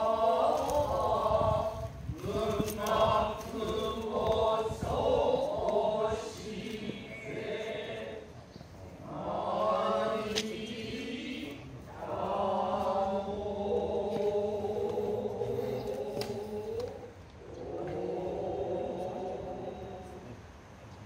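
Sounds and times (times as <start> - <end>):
person chanting: 0.0 - 8.3, 9.0 - 21.0.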